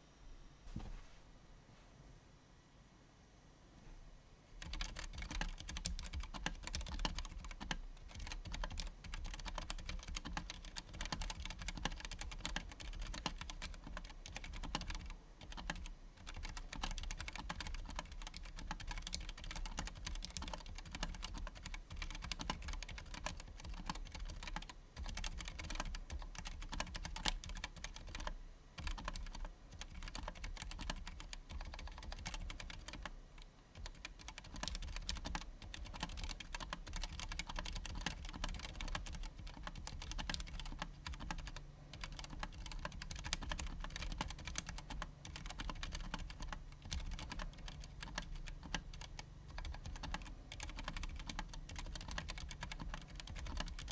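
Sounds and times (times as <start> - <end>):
mechanical keyboard typing: 4.6 - 53.9.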